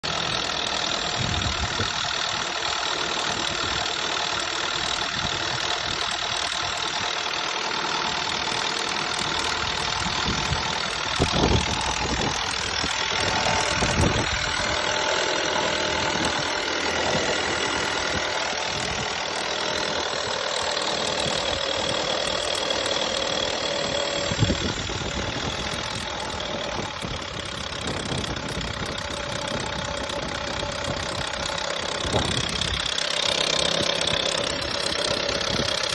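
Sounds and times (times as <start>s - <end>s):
car engine running: 0.0s - 35.9s
engine knocks: 0.0s - 35.9s.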